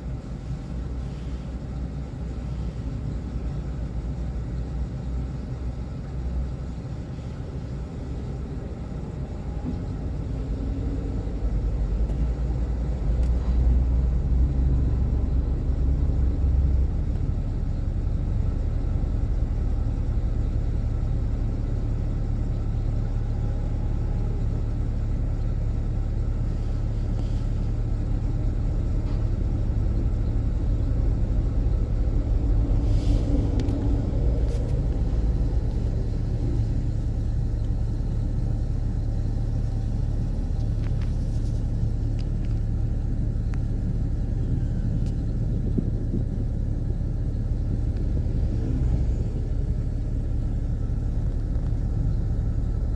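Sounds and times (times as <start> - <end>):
excavator diesel engine rumbling: 0.0 - 52.9.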